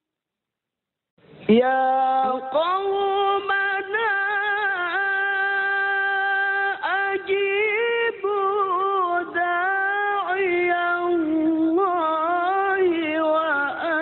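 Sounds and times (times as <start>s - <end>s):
man chanting recitation: 1.5s - 14.0s.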